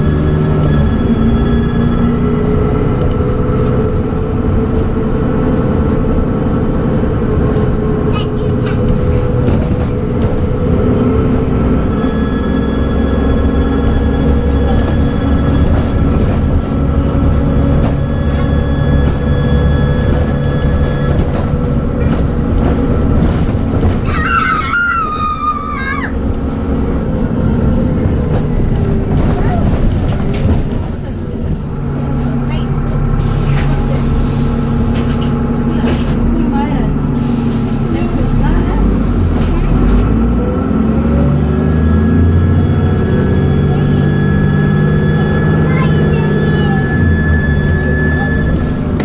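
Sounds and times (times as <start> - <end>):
bus engine rumble: 0.0 - 49.0.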